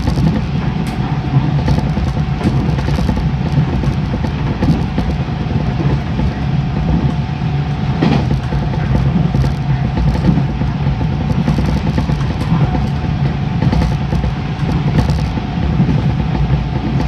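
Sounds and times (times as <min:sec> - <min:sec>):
steady hum: 0:00.0 - 0:17.0
train wheels rumbling on rails: 0:00.0 - 0:17.0.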